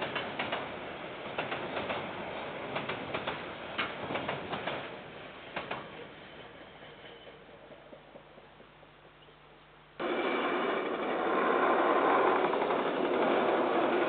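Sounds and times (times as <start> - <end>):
freight train wagons rolling past: 0.0 - 8.7, 10.0 - 14.0.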